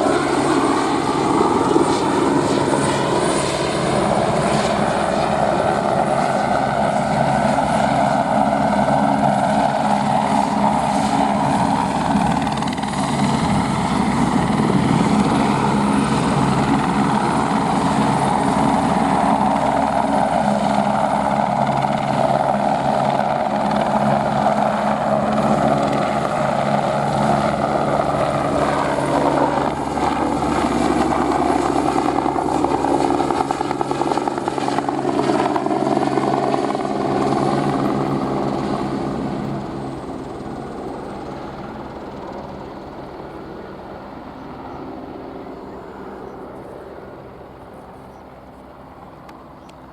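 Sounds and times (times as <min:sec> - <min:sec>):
helicopter drone and whine: 0:00.0 - 0:49.9.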